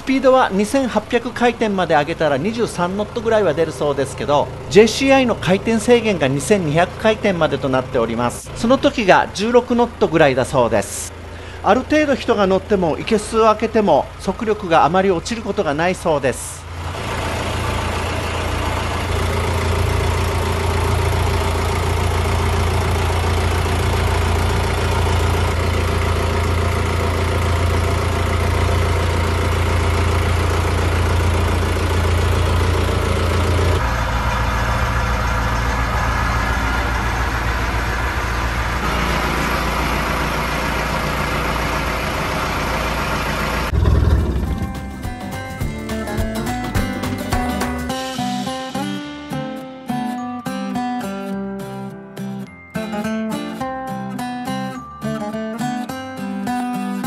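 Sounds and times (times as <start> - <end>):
diesel boat engine idling: 0.0 - 48.2.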